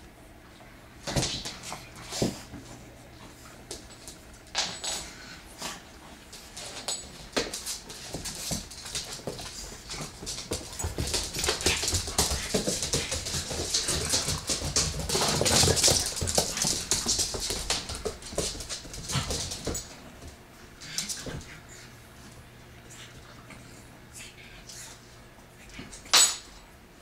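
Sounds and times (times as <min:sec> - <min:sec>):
dogs scuffling: 0:01.0 - 0:23.1.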